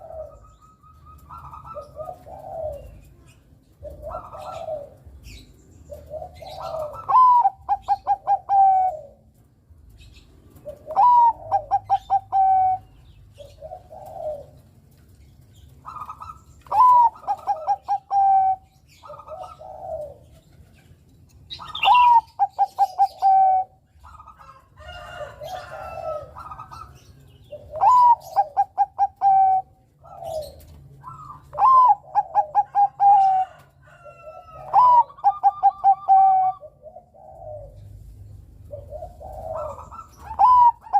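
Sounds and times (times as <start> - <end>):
dove cooing song: 0.0 - 40.9
small birds chirping: 0.0 - 40.9.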